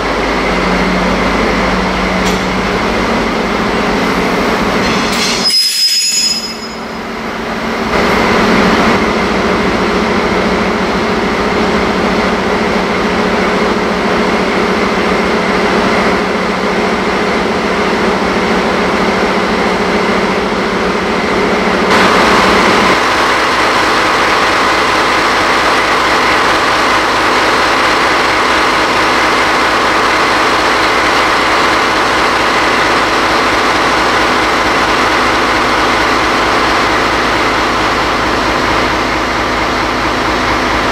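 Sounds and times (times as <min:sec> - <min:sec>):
diesel locomotive engine idling: 0:00.0 - 0:40.9.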